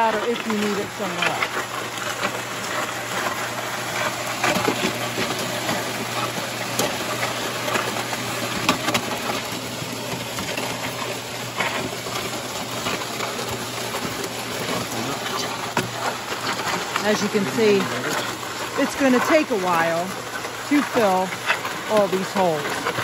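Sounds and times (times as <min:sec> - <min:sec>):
concrete and grit pattering: 0:00.0 - 0:09.6, 0:10.3 - 0:23.0
concrete mixer humming: 0:00.0 - 0:23.0.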